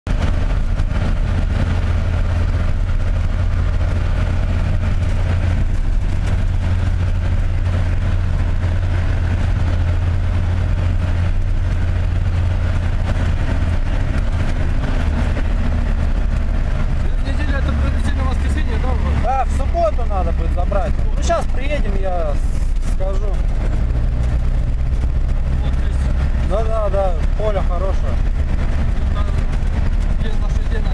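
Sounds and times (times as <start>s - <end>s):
vehicle engine and road noise: 0.0s - 30.9s.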